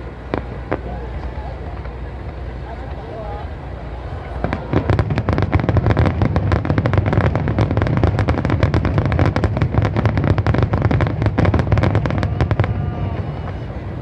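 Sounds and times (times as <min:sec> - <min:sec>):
continuous deep rumble: 0:00.0 - 0:14.0.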